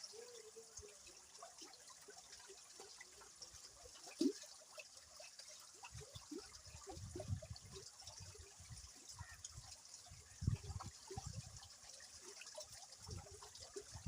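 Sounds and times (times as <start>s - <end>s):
river water gurgling: 0.0s - 14.0s.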